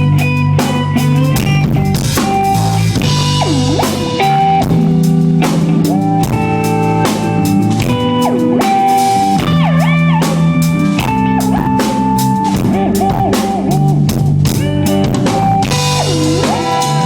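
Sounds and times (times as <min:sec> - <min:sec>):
bass guitar: 0:00.0 - 0:17.0
drum kit steady beat: 0:00.0 - 0:17.0
electric guitars with bent notes: 0:00.0 - 0:17.0.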